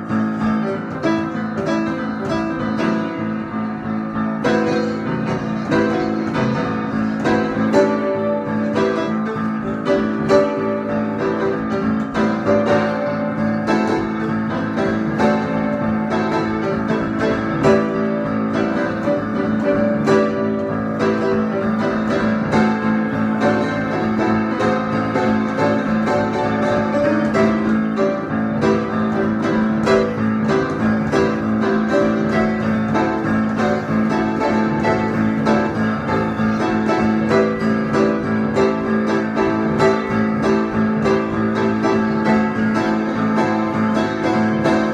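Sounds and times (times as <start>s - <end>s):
keyboard music: 0.0s - 44.9s.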